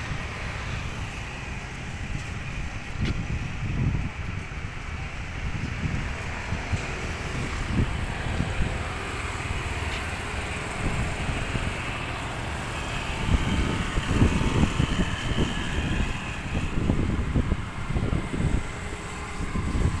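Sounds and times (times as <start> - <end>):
cars and motorbikes passing: 0.0 - 20.0
wind buffeting microphone: 0.0 - 20.0.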